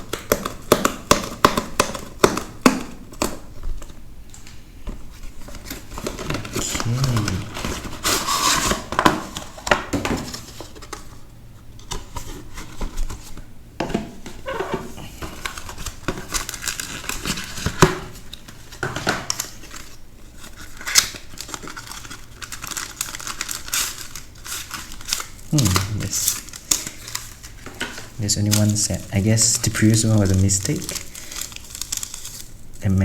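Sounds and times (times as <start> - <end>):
packaging crinkling and tearing: 0.0 - 11.2, 14.3 - 33.0.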